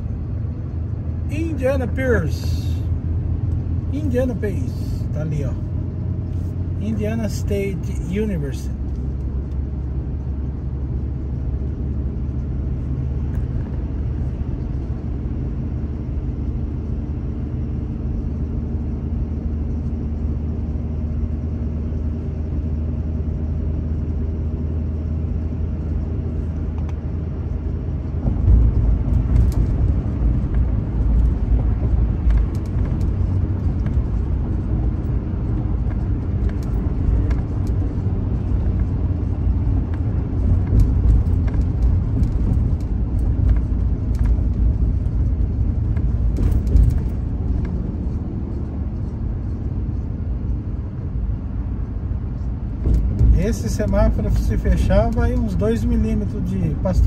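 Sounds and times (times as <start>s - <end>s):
truck engine hum: 0.0s - 57.0s.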